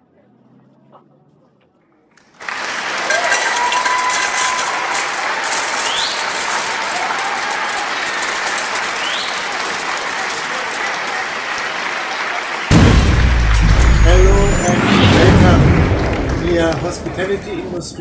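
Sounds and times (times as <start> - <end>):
audience applauding: 2.2 - 14.6, 15.4 - 18.0.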